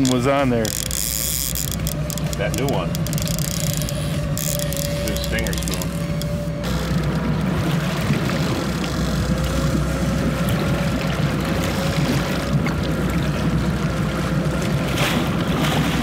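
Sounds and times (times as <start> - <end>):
boat engine rumbling: 0.0 - 16.0
water washing along hull: 0.0 - 16.0.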